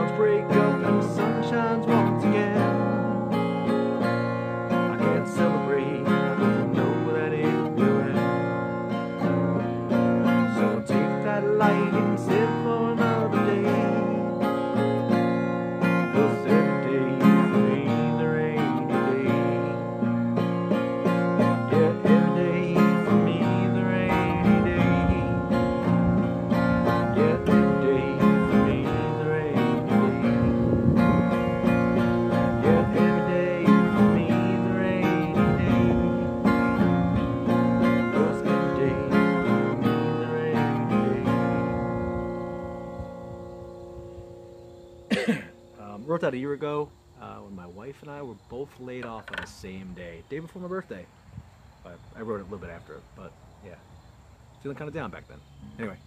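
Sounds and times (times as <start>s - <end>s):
acoustic guitar strumming: 0.0s - 51.1s, 54.6s - 56.0s.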